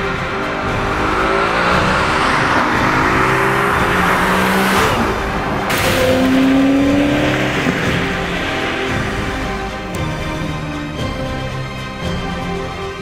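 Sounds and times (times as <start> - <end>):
car engine accelerating past: 0.0 - 10.5.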